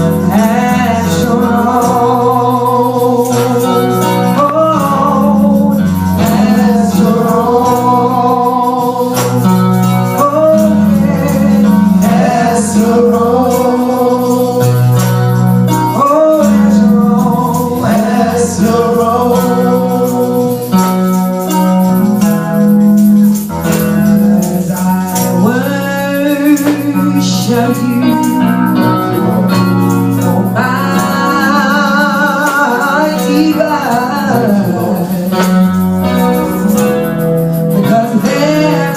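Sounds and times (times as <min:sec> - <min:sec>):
man and woman singing: 0:00.0 - 0:15.2, 0:15.8 - 0:20.9, 0:24.0 - 0:35.7, 0:37.7 - 0:38.9
organ chords: 0:00.0 - 0:38.9
steady bass: 0:00.0 - 0:38.9.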